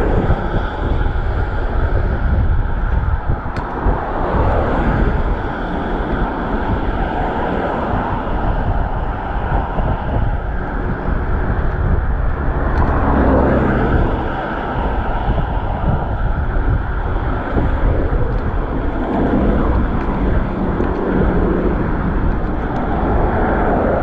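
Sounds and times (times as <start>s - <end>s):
traffic passing on busy road: 0.0s - 24.0s
wind rumbling on microphone: 0.0s - 24.0s.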